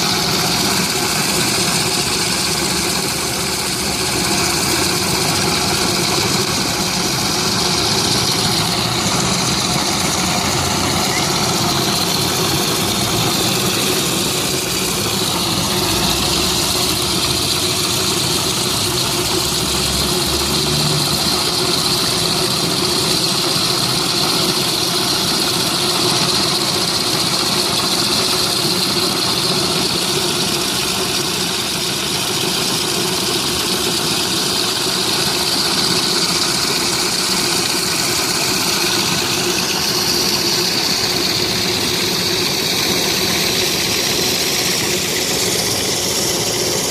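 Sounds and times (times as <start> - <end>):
hiss of spraying water: 0.0 - 46.9
pressure washer engine drone: 0.0 - 46.9.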